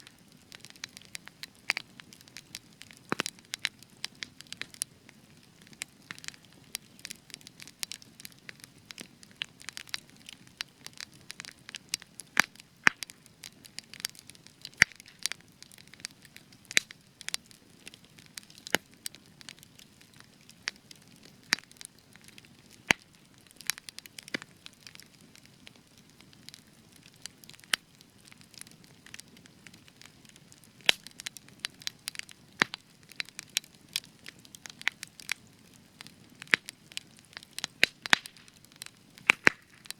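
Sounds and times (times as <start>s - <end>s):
campfire crackling and popping: 0.0s - 39.9s
soft hiss of burning: 0.0s - 39.9s.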